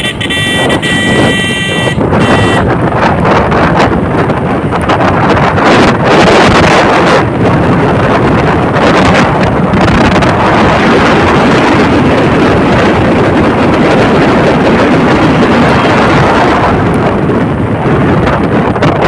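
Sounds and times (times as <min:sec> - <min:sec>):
motor vehicles running: 0:00.0 - 0:19.0
wind buffeting microphone: 0:00.0 - 0:19.0.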